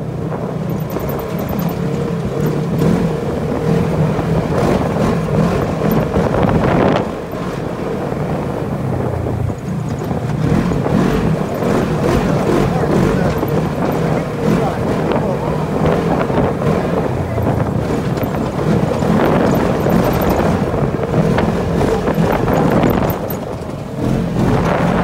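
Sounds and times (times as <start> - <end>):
vehicle engine running: 0.0 - 25.0
wind on microphone: 0.0 - 25.0.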